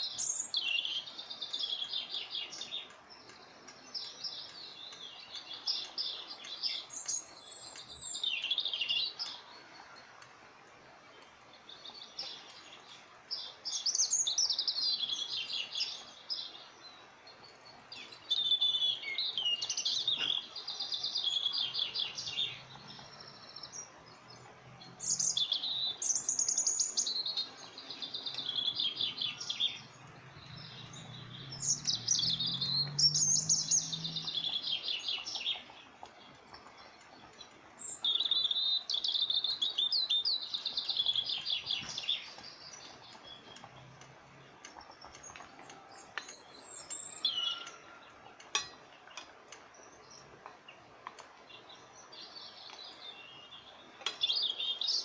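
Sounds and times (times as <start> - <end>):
small bird chirping and trilling: 0.0 - 9.8, 11.7 - 43.8, 44.6 - 48.8, 51.5 - 55.0.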